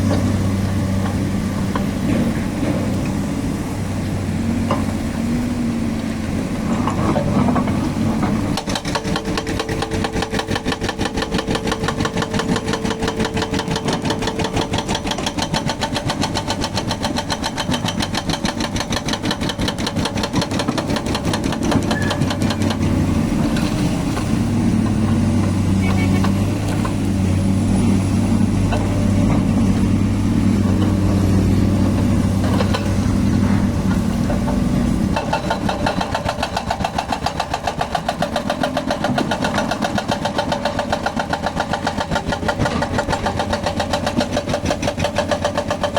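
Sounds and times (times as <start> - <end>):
diesel engine running: 0.0 - 45.9
hydraulic breaker hammer pounding: 6.9 - 27.1, 28.4 - 45.9.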